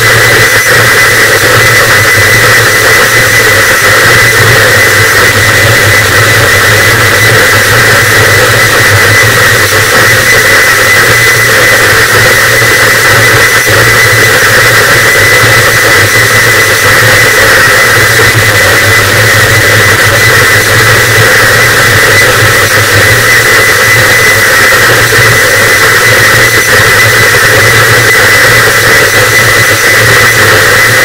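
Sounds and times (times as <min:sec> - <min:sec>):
distorted static noise: 0:00.0 - 0:31.0.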